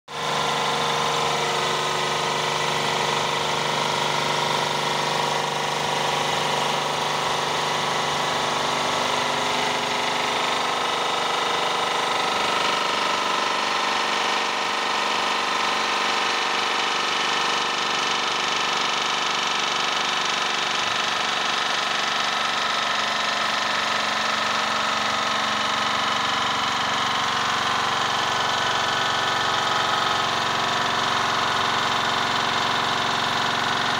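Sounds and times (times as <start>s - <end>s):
plunger pump whirring: 0.1s - 33.9s.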